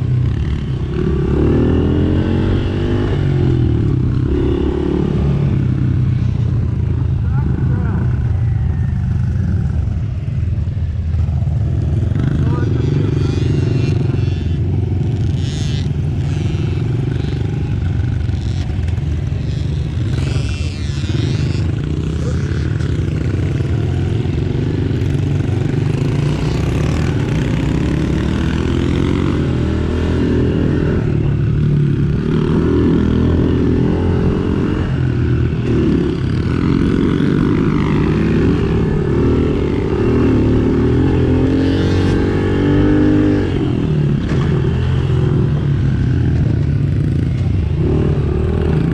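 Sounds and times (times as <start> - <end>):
motorbike engine revving: 0.0 - 8.3, 9.4 - 48.9.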